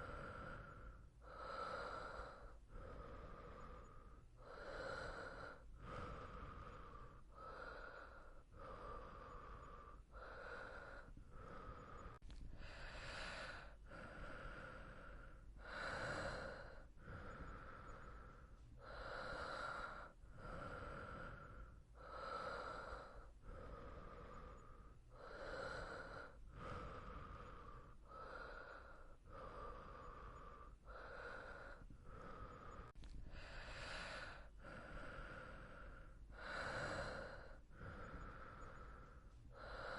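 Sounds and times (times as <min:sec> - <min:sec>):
person breathing while asleep: 0:00.0 - 0:39.9.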